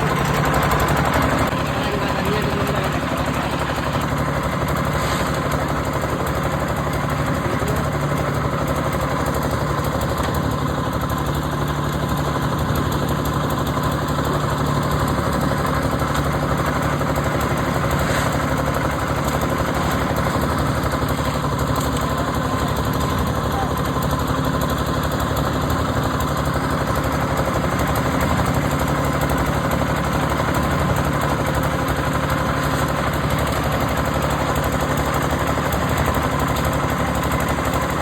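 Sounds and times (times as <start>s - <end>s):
concrete mixer engine droning: 0.0s - 38.0s.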